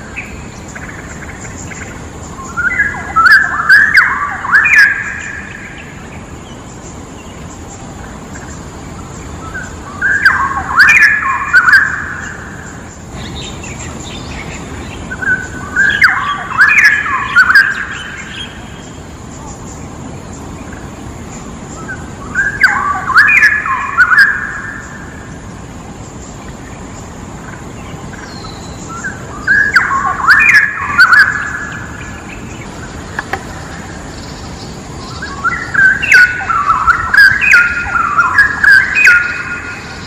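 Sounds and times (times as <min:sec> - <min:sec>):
bird chirping: 0:00.0 - 0:40.0
steady background hiss: 0:00.0 - 0:40.0.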